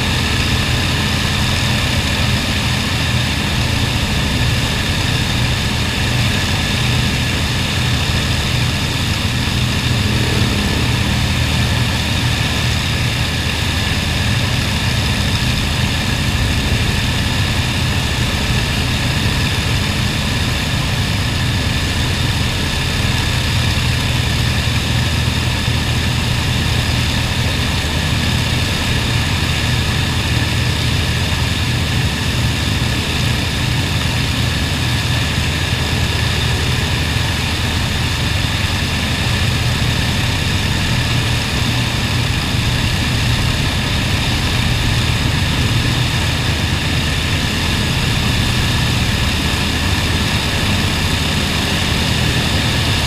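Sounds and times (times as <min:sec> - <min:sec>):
propeller aircraft engines running: 0:00.0 - 0:53.0.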